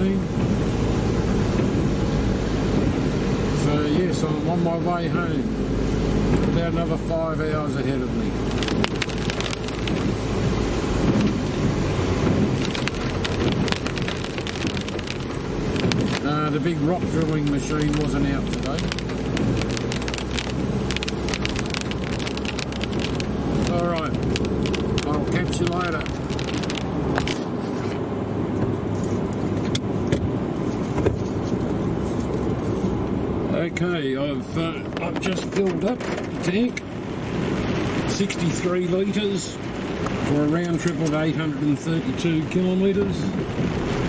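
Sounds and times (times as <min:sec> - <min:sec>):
rain pattering on vehicle: 0:00.0 - 0:44.0
road and engine rumble: 0:00.0 - 0:44.0.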